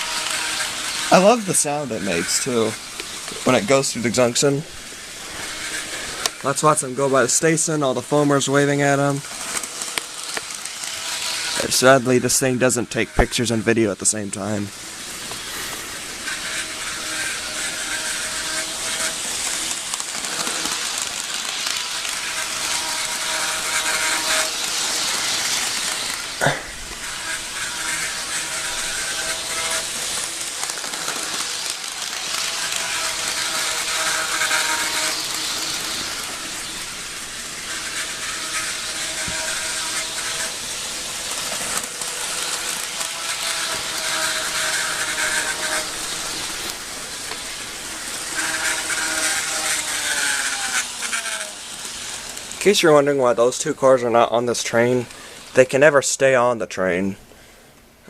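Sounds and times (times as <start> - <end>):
wheels rolling on metal rails: 0.0 - 13.7, 14.6 - 55.6
model train motor whining: 0.0 - 56.1.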